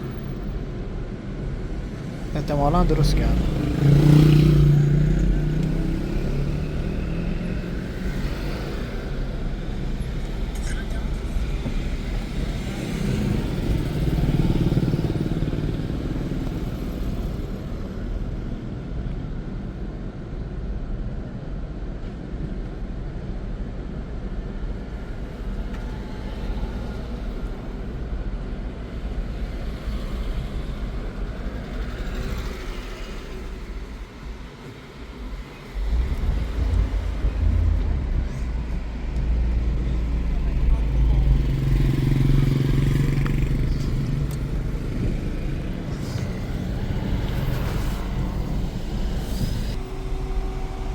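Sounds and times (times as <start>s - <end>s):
vehicle engine rumble: 0.0s - 19.1s, 24.7s - 50.9s.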